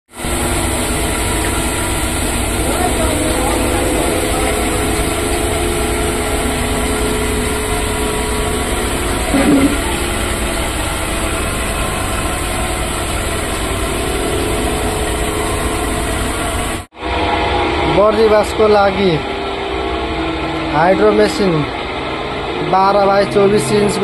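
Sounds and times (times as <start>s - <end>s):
spin dryer motor humming: 0.1s - 24.0s.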